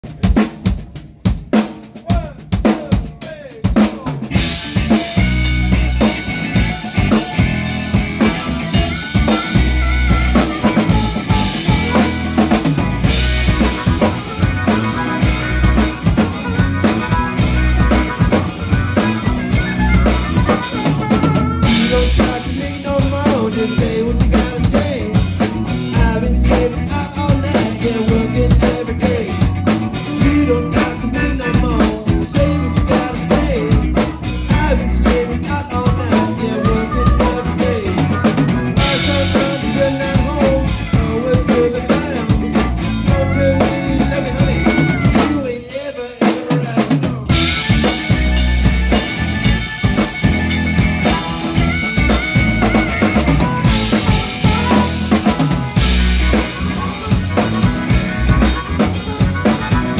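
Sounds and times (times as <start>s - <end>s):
band playing a song: 0.0s - 59.9s.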